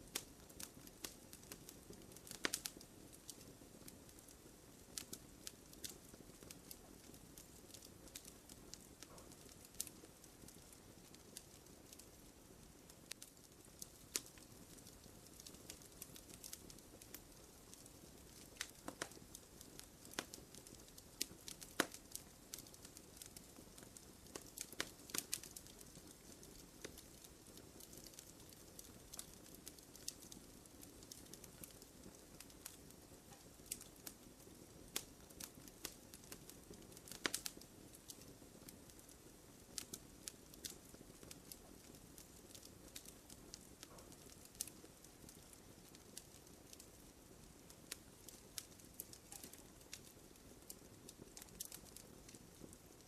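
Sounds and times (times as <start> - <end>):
fire hiss: 0.0 - 52.8
campfire crackling and popping: 0.0 - 53.0.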